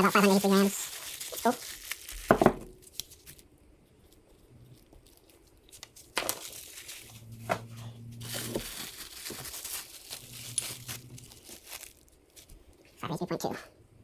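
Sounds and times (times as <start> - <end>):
rustling and scraping: 0.3 - 13.0.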